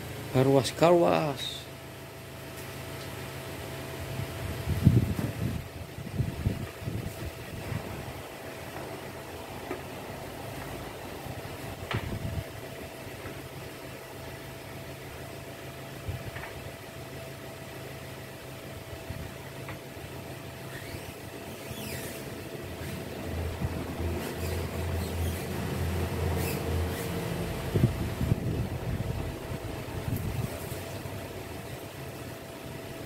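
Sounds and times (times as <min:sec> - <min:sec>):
motor hum: 0:02.0 - 0:33.0.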